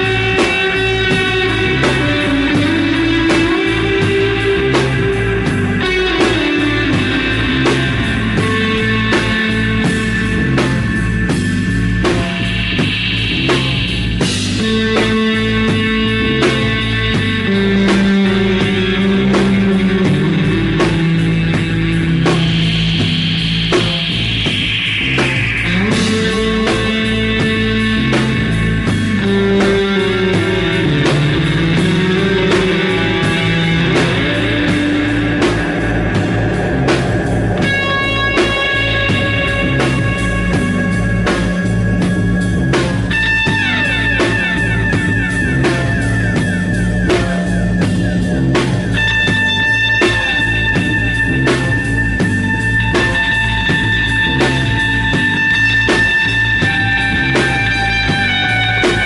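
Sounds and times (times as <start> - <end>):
rock band playing instrumental: 0.0 - 59.0.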